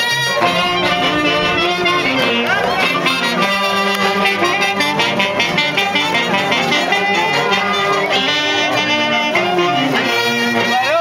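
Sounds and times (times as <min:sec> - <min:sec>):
brass band playing dance tune: 0:00.0 - 0:11.0.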